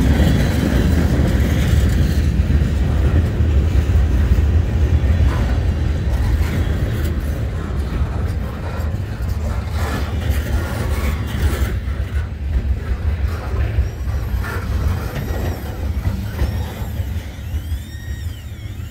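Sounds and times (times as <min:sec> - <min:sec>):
train wheels rumbling on rails: 0:00.0 - 0:18.9.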